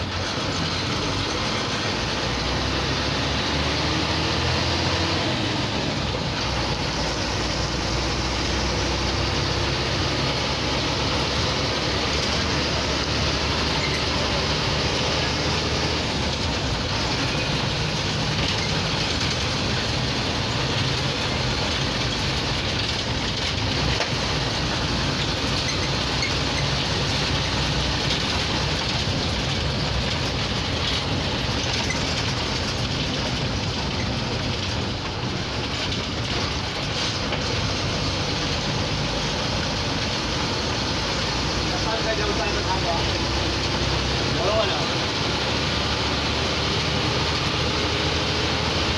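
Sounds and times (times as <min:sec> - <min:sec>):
bus engine running: 0:00.0 - 0:48.9
road and body noise: 0:00.0 - 0:48.9.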